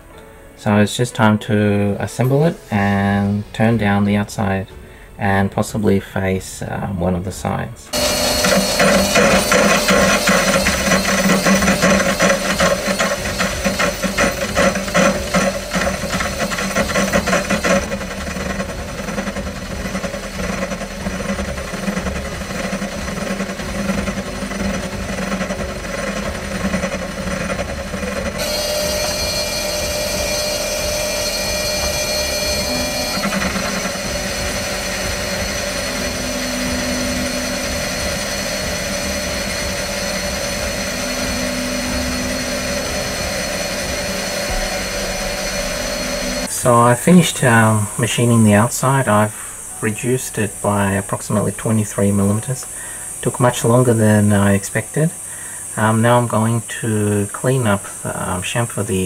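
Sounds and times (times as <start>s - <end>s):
metal lathe cutting steel: 7.9s - 59.0s.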